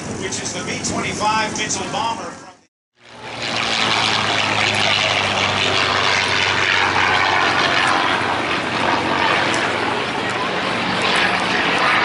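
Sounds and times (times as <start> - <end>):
rushing propeller noise: 0.0 - 12.0.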